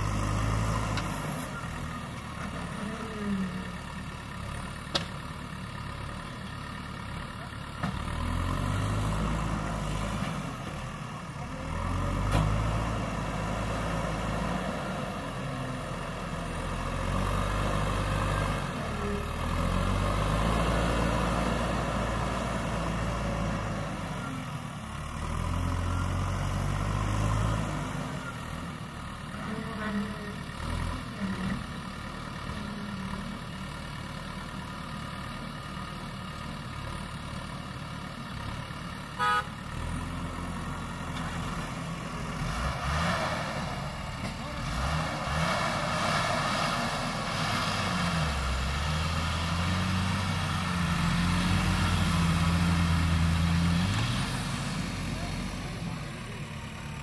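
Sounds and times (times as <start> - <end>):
diesel engine working under load: 0.0 - 57.0.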